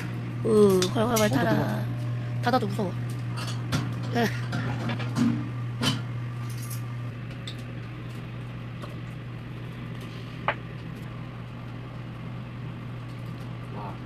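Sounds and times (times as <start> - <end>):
exhaust fan humming: 0.0 - 14.0.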